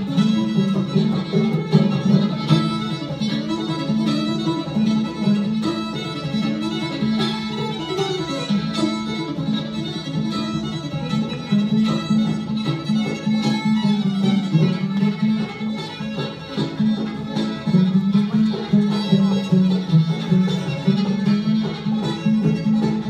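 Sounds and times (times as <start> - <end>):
banjo plucked rhythm: 0.0 - 23.0
fiddle melody: 0.0 - 23.0.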